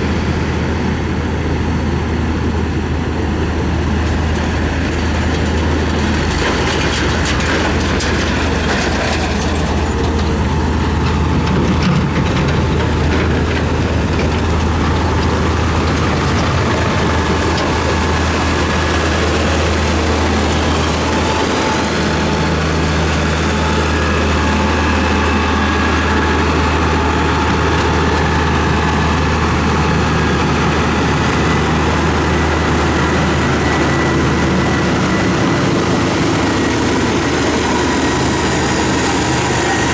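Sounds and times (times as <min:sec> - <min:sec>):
diesel engine droning: 0:00.0 - 0:39.9
faint engine whine: 0:00.0 - 0:39.9.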